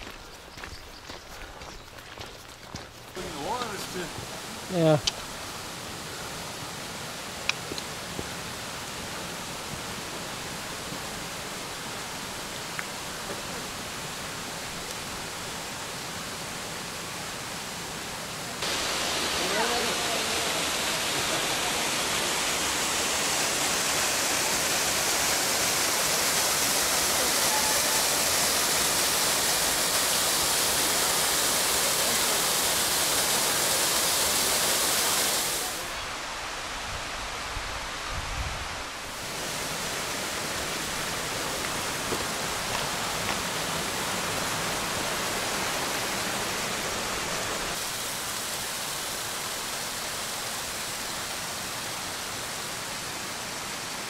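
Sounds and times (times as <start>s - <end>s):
rushing water and waterfalls: 0.0s - 54.0s.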